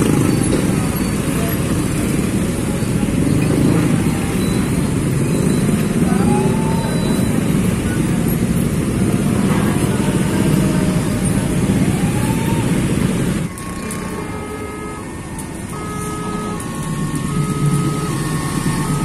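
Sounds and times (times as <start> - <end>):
engine rumble: 0.0 - 19.0
motorcycle engines idling and revving: 0.0 - 19.0.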